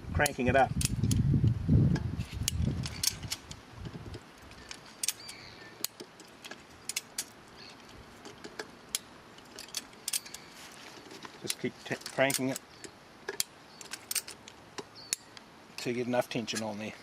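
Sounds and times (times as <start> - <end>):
ratchet handle metallic clicks: 0.2 - 1.2, 2.2 - 7.7, 8.4 - 10.5, 11.4 - 16.7.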